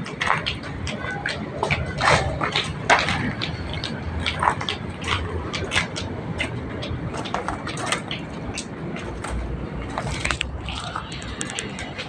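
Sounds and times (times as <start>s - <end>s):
footsteps crunching over rubble: 0.0s - 12.0s.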